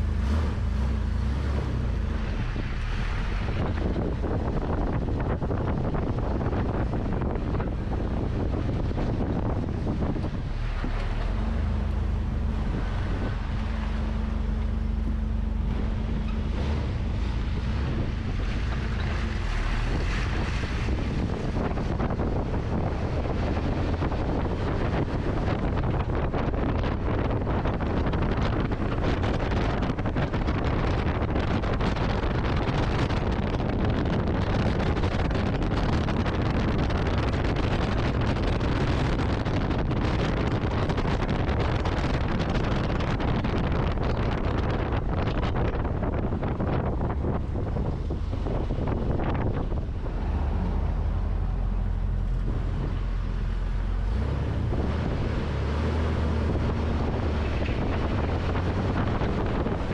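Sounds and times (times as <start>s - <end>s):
road and tyre noise: 0.0s - 59.9s
wind rushing over microphone: 0.0s - 59.9s.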